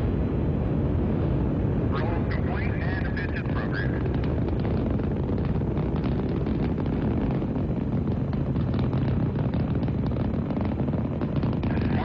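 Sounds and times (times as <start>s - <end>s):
rocket engines rumbling and crackling: 0.0s - 12.0s.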